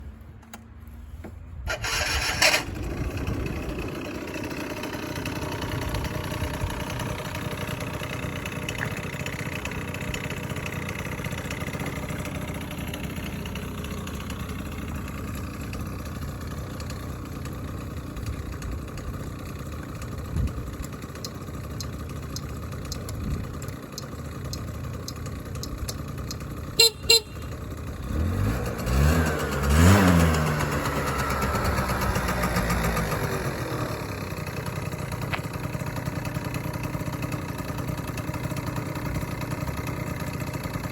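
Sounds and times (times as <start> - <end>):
scooter engine starting and idling: 0.2 - 40.9.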